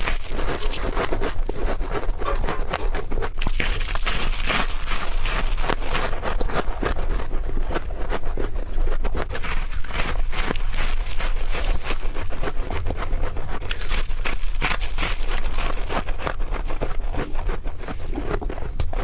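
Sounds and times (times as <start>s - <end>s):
crunching and chewing frost: 0.0s - 19.0s.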